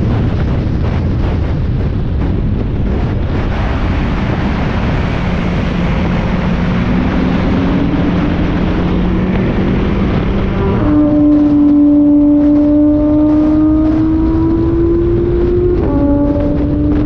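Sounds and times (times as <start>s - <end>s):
wind noise on microphone: 0.0s - 17.0s
race car engine accelerating: 3.3s - 17.0s.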